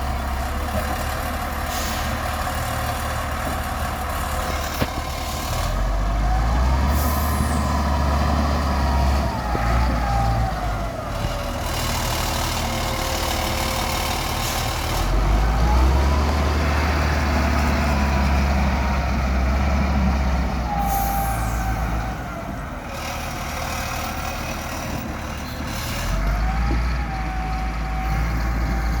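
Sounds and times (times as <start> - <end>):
heavy diesel engine rumble: 0.0 - 29.0.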